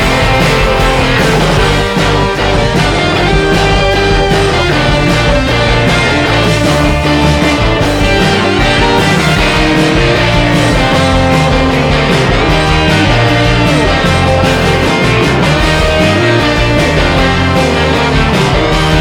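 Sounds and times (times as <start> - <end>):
guitar-driven rock music: 0.0 - 19.0.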